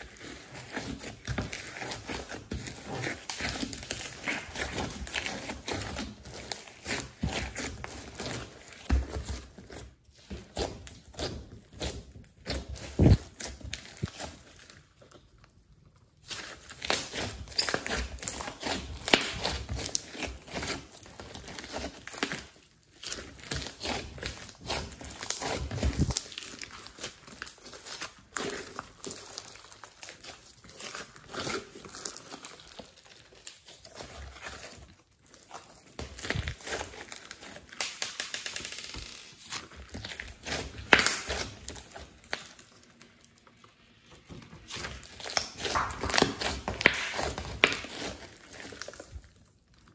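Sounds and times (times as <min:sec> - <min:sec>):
sticky slime crackling and popping: 0:00.0 - 0:49.9.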